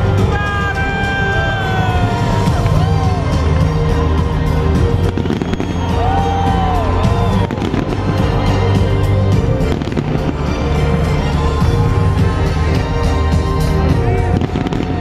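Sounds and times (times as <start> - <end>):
fireworks bursting and crackling: 0.0 - 15.0
loud music: 0.0 - 15.0.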